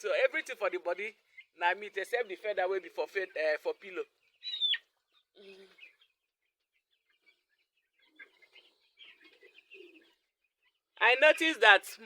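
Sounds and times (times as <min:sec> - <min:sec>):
chicks peeping: 0:00.1 - 0:11.4.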